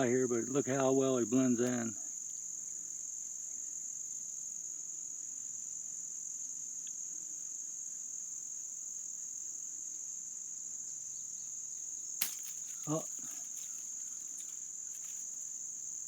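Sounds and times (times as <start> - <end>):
insects chirping drone: 0.0 - 16.0.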